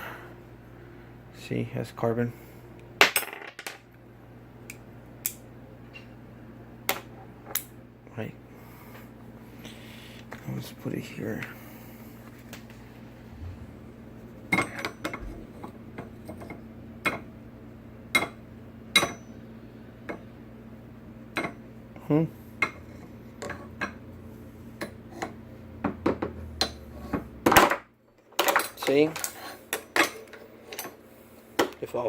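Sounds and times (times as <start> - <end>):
steady low hum: 4.0 - 31.6.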